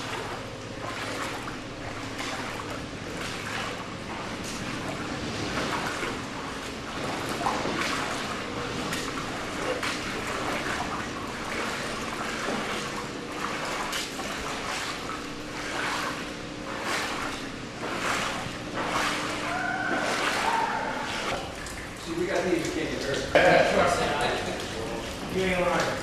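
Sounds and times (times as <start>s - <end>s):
floodwater running and trickling: 0.0s - 26.0s
water splashes: 0.0s - 26.0s.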